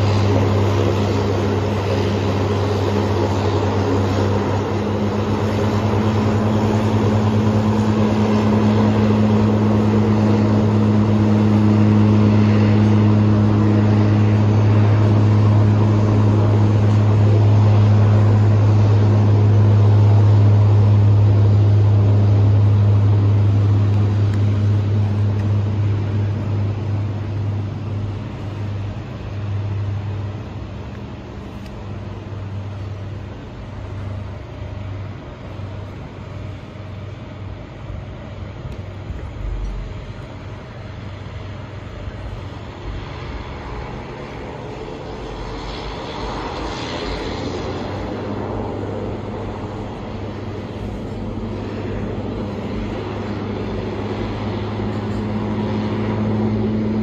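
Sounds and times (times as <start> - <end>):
floatplane propeller engine droning: 0.0 - 57.0.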